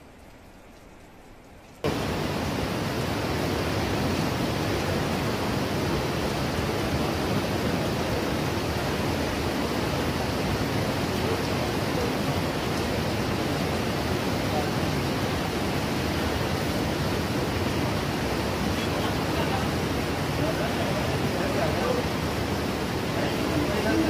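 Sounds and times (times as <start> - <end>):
rain falling: 0.0 - 24.0
river rushing: 1.8 - 24.0.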